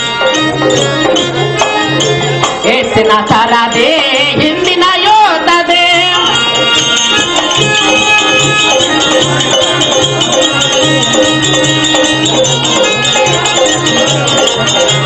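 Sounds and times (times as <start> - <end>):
steady drum beat: 0.0 - 15.0
sustained melody tones: 0.0 - 15.0.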